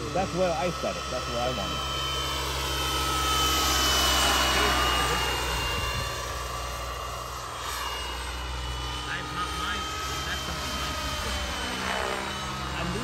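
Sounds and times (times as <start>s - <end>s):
model helicopter turbine whine: 0.0s - 13.0s.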